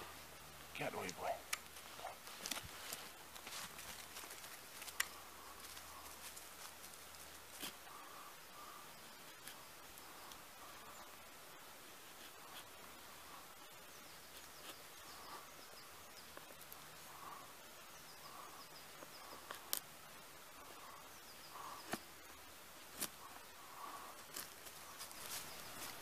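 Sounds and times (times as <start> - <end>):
quiet woodland background: 0.0 - 26.0.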